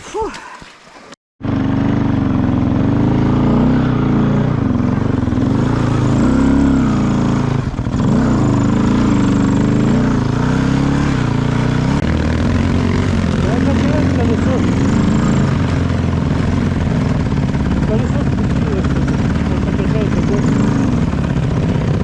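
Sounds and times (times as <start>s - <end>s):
off-road vehicle engine revving: 1.4s - 22.0s.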